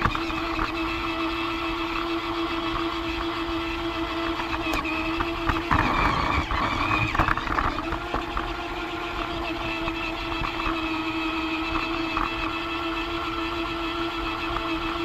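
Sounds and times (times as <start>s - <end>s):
toy train motor humming: 0.0s - 15.0s.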